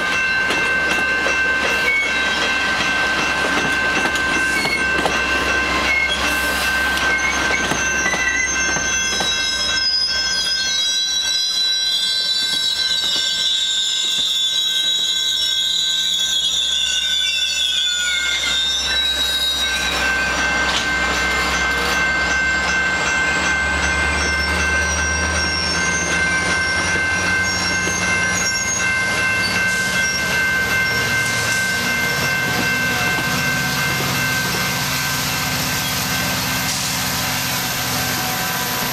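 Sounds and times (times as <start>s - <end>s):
train wheels squealing on rails: 0.0s - 38.9s.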